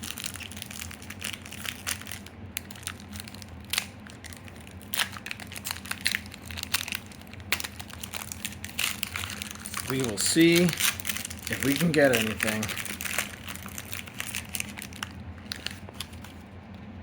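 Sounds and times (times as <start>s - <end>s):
foil wrappers crinkling: 0.0s - 16.4s
plastic packaging snapping: 0.0s - 16.4s.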